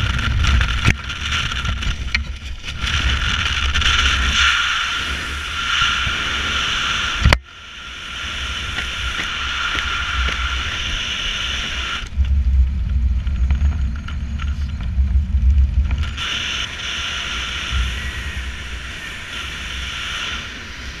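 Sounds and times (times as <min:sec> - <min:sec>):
low buffeting rumble: 0:00.0 - 0:21.0
wind hissing over camera: 0:00.0 - 0:21.0.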